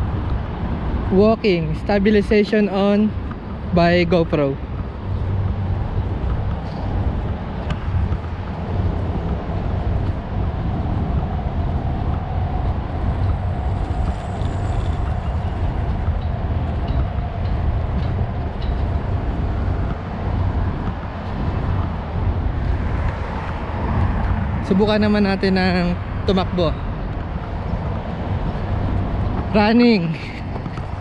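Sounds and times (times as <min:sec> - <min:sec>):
city street traffic rumble: 0:00.0 - 0:31.0.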